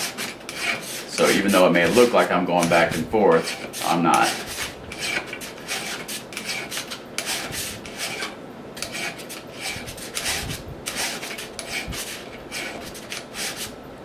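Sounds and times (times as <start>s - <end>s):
hand file rasping on metal: 0.0s - 13.8s.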